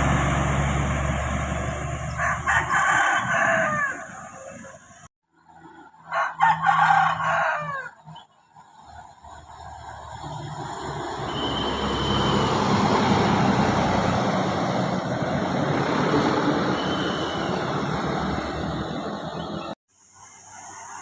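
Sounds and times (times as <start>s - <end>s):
bus passing: 0.0s - 19.8s.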